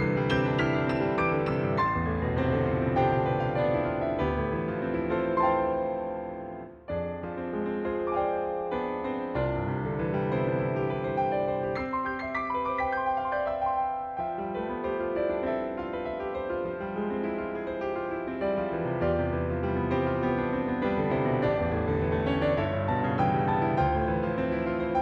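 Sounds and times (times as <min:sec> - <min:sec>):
piano playing chords: 0:00.0 - 0:25.0.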